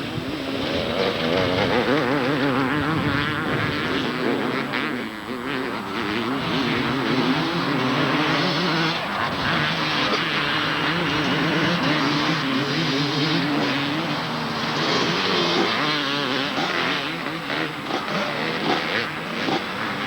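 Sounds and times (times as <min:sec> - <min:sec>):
motocross bikes revving: 0:00.0 - 0:20.0.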